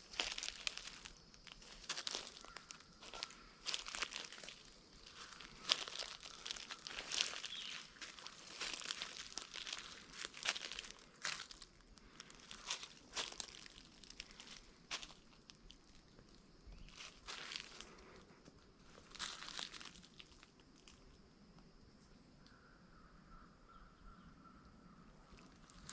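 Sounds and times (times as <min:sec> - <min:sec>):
footsteps crunching dry leaves: 0:00.0 - 0:20.9, 0:25.5 - 0:25.9.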